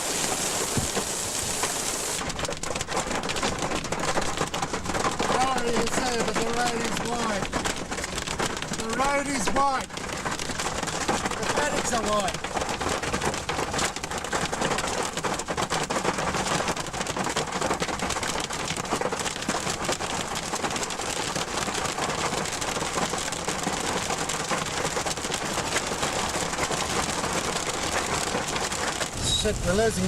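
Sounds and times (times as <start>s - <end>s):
hail and heavy rain pelting: 0.0s - 30.0s.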